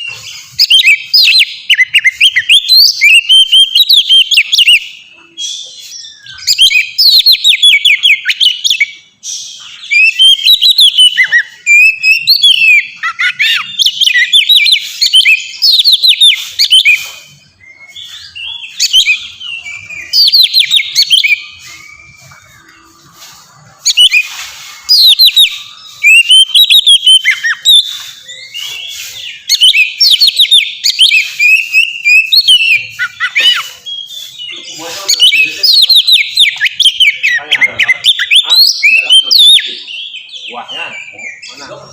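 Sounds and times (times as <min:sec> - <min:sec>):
bird whistling song: 0:00.0 - 0:41.9.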